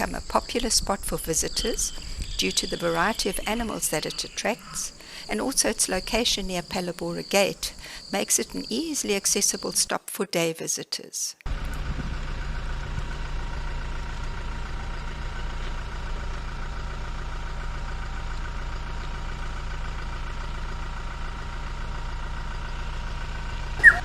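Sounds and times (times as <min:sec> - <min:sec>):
vehicle engine humming: 0:00.0 - 0:09.8, 0:11.5 - 0:24.0.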